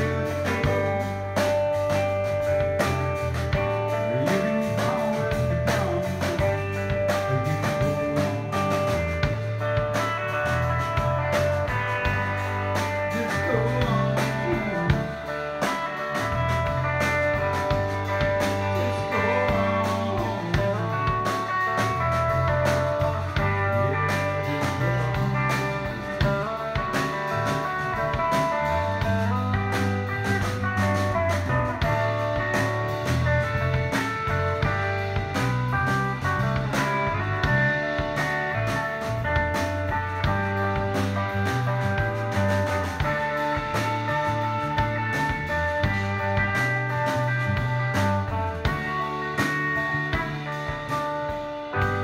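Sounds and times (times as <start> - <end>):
drum and cymbal hits: 0.0 - 52.0
electric bass line: 0.0 - 52.0
live band playing: 0.0 - 52.0.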